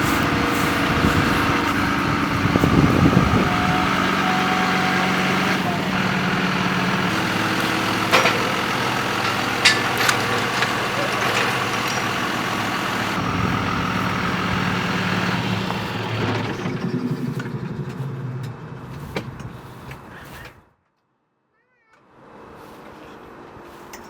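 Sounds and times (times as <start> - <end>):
tractor diesel engine running: 0.0 - 20.3.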